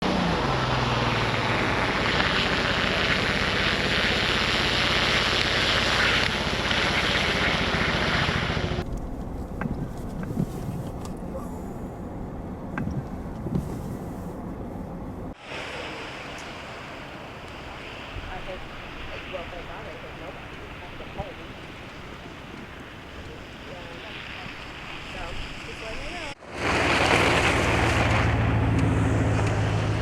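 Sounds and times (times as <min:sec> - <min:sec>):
passing traffic: 0:00.0 - 0:30.0.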